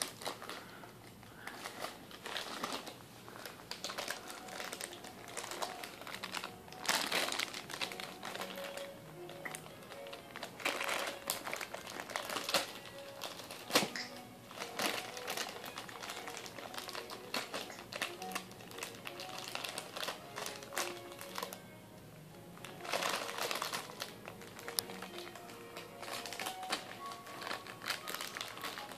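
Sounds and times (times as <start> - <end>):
plastic packet crinkling: 0.0 - 21.8, 22.6 - 28.9.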